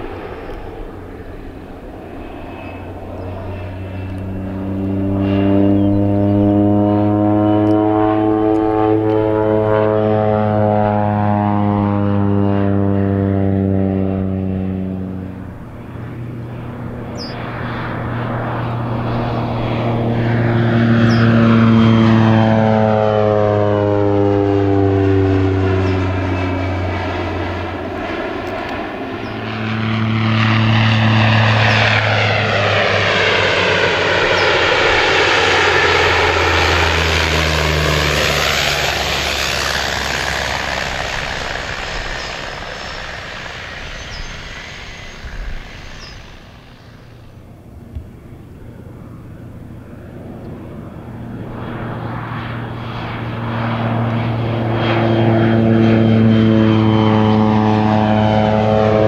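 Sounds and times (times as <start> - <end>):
propeller plane flying past: 0.0 - 59.0.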